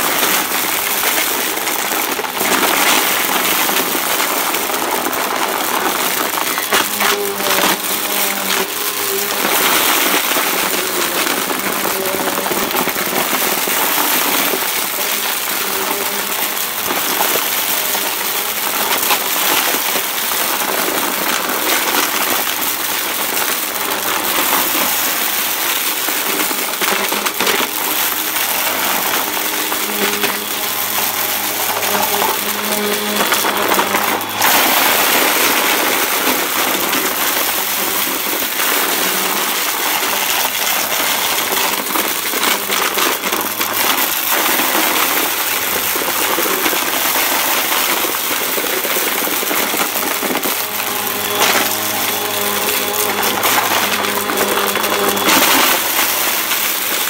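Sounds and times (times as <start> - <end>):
small debris rattling through nozzle: 0.0 - 57.0
vacuum cleaner motor whine: 0.0 - 57.0.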